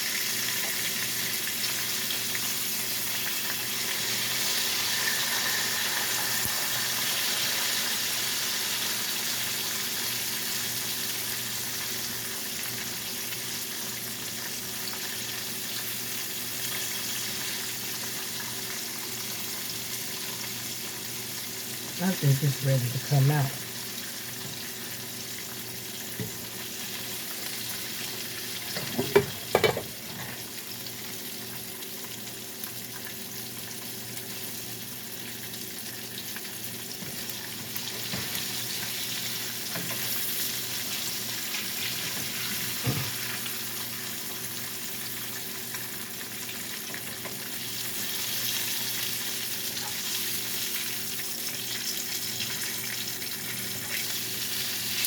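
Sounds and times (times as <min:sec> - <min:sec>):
fish sizzling in oil: 0:00.0 - 0:55.0.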